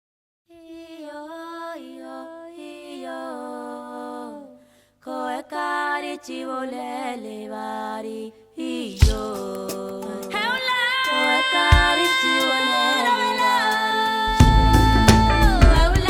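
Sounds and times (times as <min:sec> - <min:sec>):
person singing unaccompanied chant: 0:00.6 - 0:16.0.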